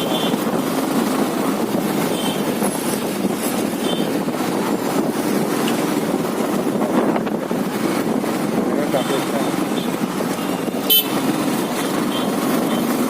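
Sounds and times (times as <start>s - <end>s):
motorbike road noise: 0.0s - 13.0s
wind rush on microphone: 0.0s - 13.0s.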